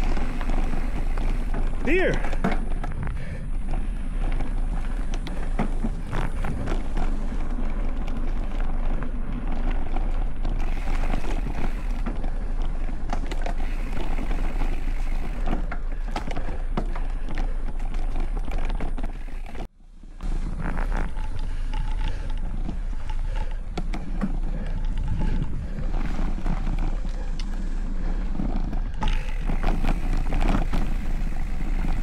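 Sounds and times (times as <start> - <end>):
bike tyre noise on dirt: 0.0 - 32.0
wind rumble on microphone: 0.0 - 32.0.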